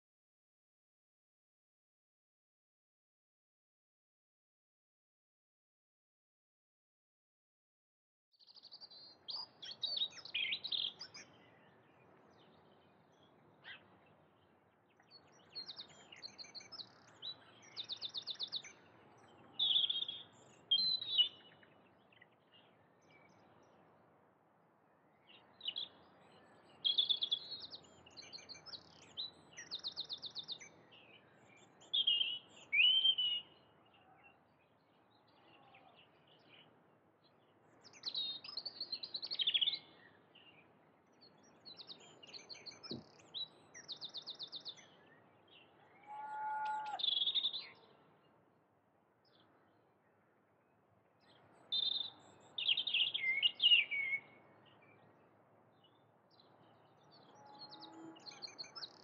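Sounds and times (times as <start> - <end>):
songbirds singing: 8.4 - 59.0.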